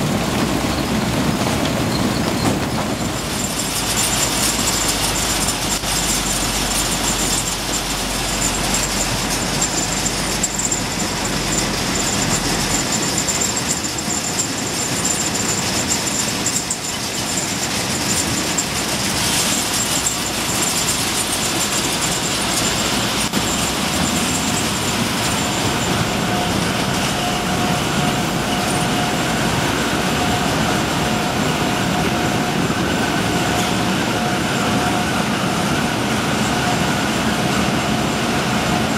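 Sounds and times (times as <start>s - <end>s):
constant high whine: 0.0s - 38.9s
harvesting machinery running: 0.0s - 38.9s.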